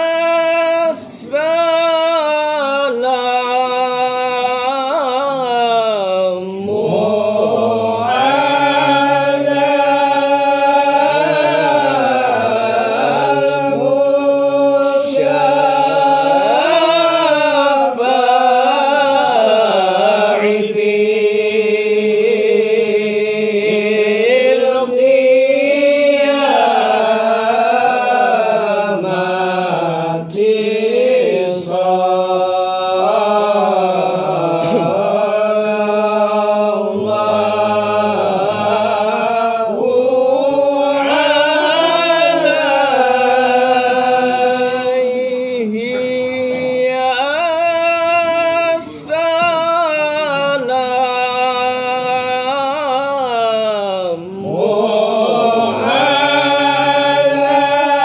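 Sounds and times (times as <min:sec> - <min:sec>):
men chanting unaccompanied: 0:00.0 - 0:58.0.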